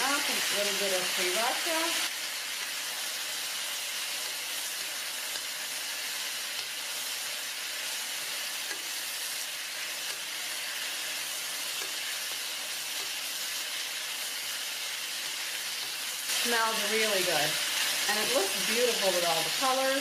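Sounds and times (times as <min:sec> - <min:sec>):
stir-fry sizzling in a wok: 0:00.0 - 0:20.0.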